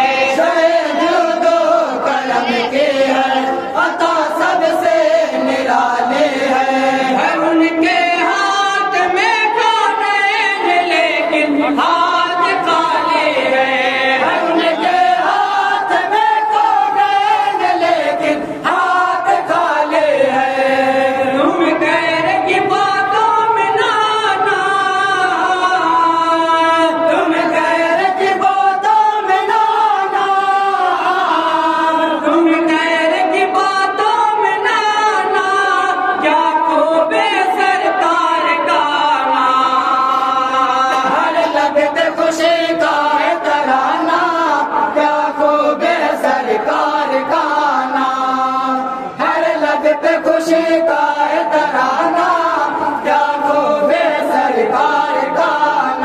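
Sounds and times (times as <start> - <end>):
men chanting together: 0.0 - 56.0.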